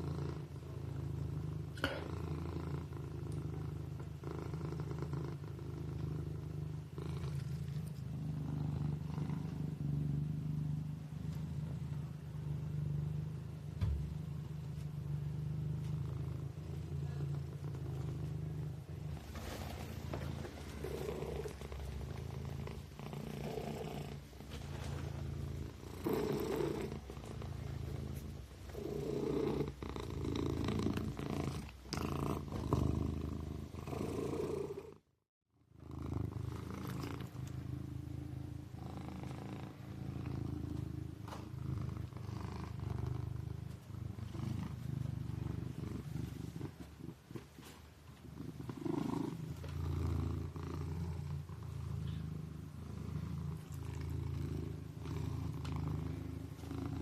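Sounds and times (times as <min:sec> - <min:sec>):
kitten purring: 0:00.0 - 0:57.0.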